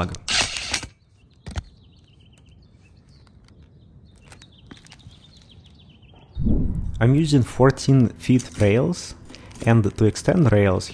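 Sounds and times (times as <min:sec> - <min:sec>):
outdoor ambience: 0:00.0 - 0:10.9.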